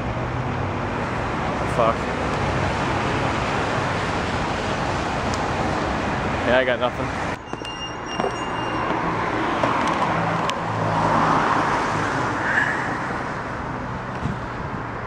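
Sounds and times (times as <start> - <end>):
vehicle engine hum and tyre noise: 0.0 - 15.0.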